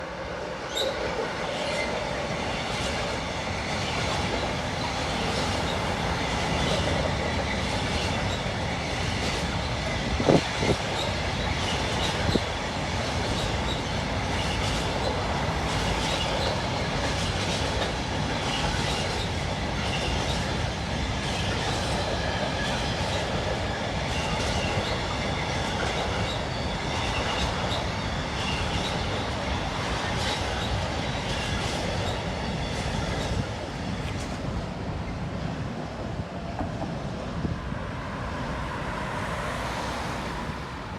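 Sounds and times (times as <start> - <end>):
freight train rumbling: 0.0 - 40.9.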